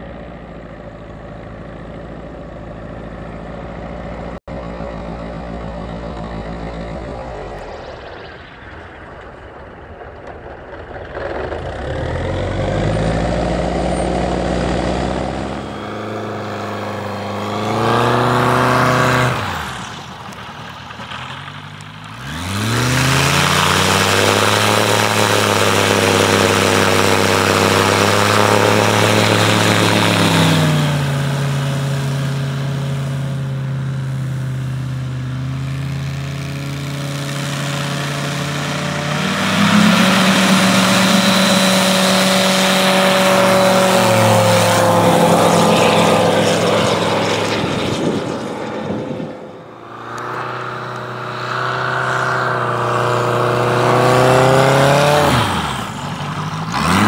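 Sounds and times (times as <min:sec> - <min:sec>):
propeller plane engine: 0:00.0 - 0:57.0.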